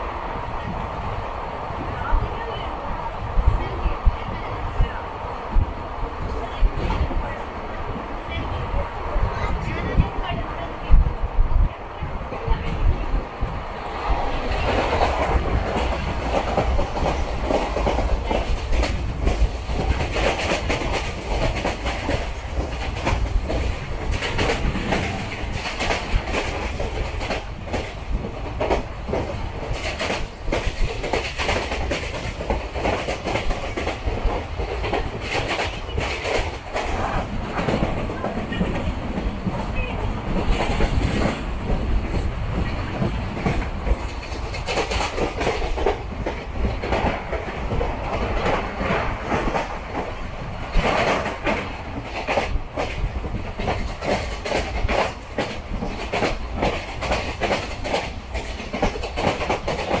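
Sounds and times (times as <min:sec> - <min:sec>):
train carriage rumble: 0:00.0 - 1:00.0.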